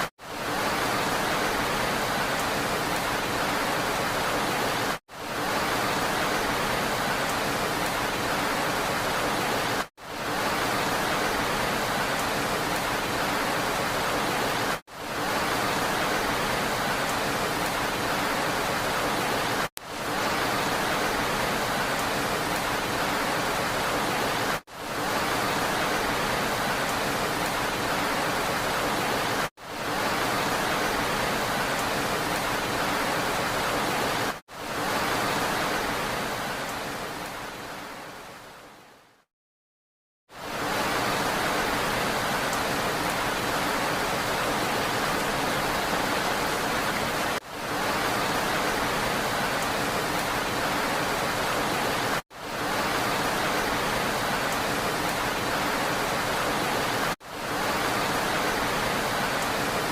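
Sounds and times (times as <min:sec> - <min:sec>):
rain hissing: 0:00.0 - 0:39.2, 0:40.3 - 0:59.9.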